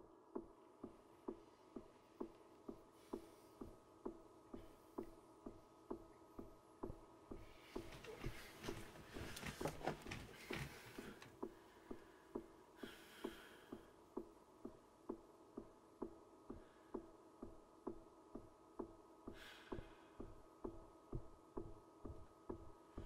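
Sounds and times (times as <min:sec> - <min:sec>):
faint clock-like ticking: 0:00.0 - 0:09.5, 0:10.5 - 0:23.0.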